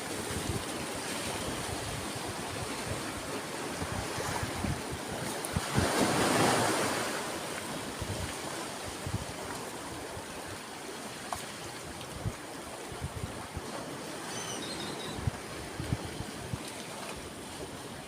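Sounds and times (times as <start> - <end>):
wind rumbling on microphone: 0.0 - 10.6, 11.8 - 18.0
sea waves breaking on shore: 0.0 - 18.0.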